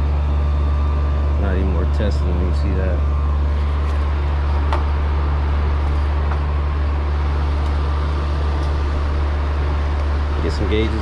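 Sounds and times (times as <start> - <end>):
condenser humming: 0.0 - 11.0
fan air rushing: 0.0 - 11.0.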